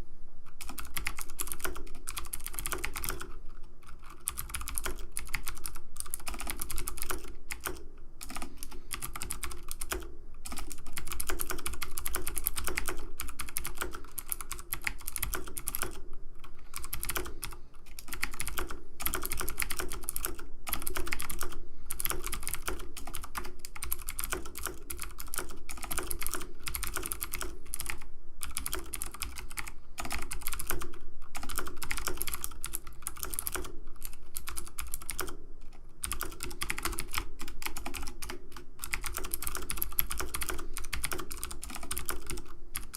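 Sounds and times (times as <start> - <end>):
keyboard keys clicking: 0.6 - 16.0, 16.8 - 35.4, 36.0 - 42.9.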